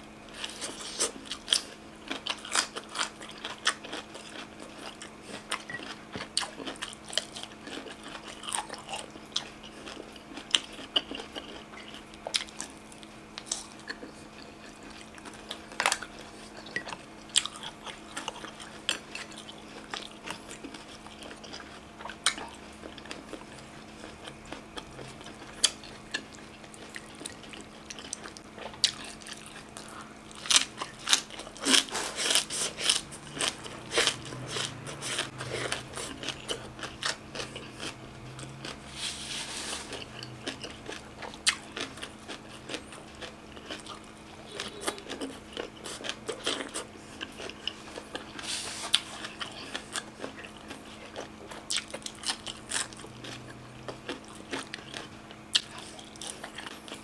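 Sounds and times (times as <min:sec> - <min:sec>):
faint steady hum: 0:00.0 - 0:57.0
crunchy chewing: 0:00.3 - 0:57.0.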